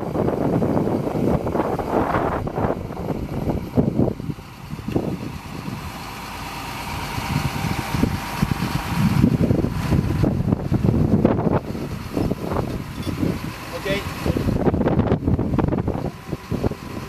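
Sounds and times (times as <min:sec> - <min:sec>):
diesel engine idling: 0:00.0 - 0:17.0
wind buffeting microphone: 0:00.0 - 0:17.0.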